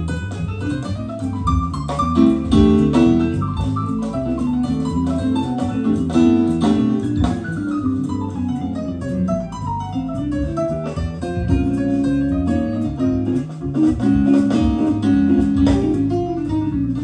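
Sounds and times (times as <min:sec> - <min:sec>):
instrumental music from cassette tape: 0:00.0 - 0:17.0.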